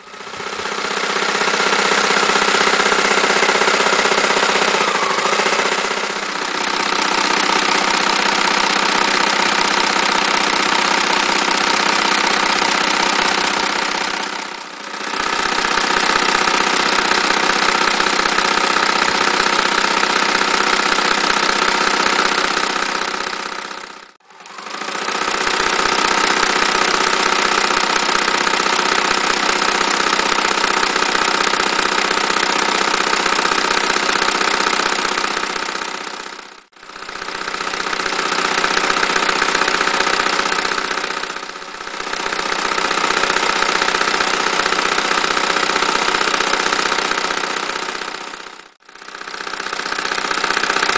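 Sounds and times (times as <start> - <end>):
electric sewing machine stitching: 0.0 - 50.9.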